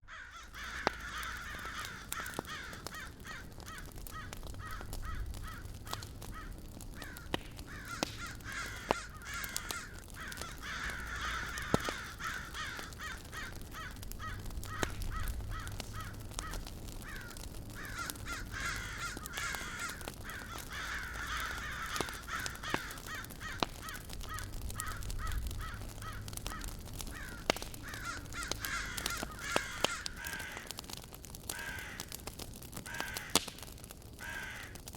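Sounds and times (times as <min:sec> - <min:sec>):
birds calling harsh notes: 0:00.1 - 0:30.8
campfire crackling and popping: 0:00.1 - 0:34.9.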